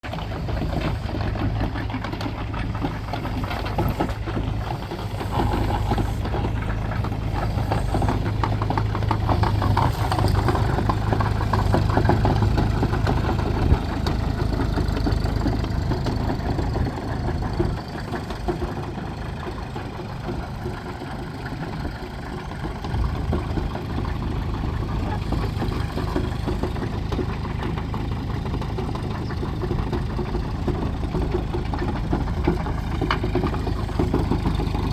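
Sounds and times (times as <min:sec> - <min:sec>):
excavator diesel engine idling: 0:00.0 - 0:34.9.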